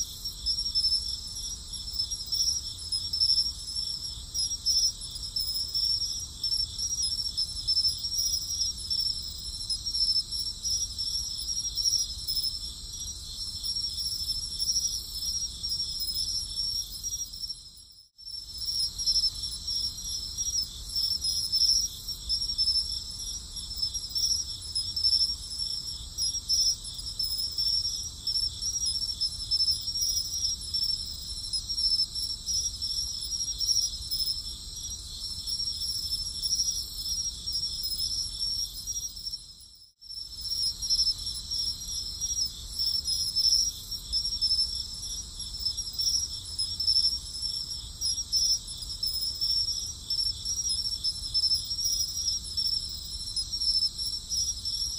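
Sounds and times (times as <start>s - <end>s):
crickets chirring: 0.0s - 54.9s.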